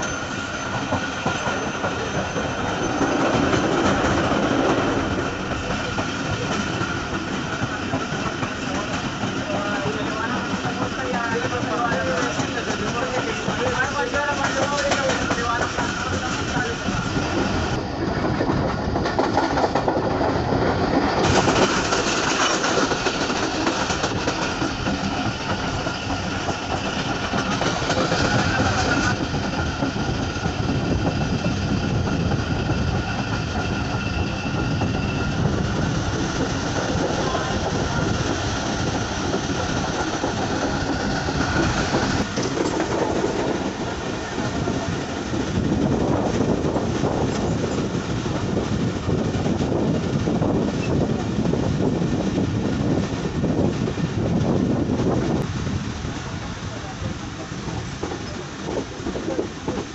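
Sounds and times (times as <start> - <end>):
moving train rumble: 0.0 - 59.9
train wheels clickety-clack: 0.0 - 59.9.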